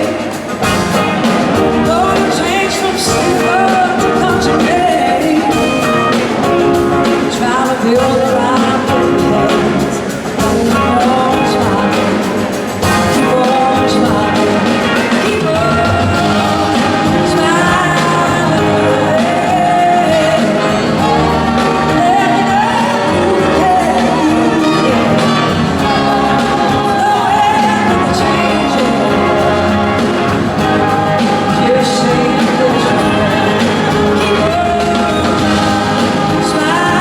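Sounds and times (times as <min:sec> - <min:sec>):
live rock band playing: 0:00.0 - 0:37.0
person singing: 0:00.0 - 0:37.0.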